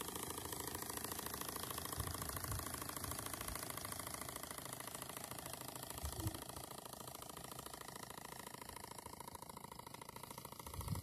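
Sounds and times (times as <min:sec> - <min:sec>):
small steam engine chuffing: 0:00.0 - 0:11.0.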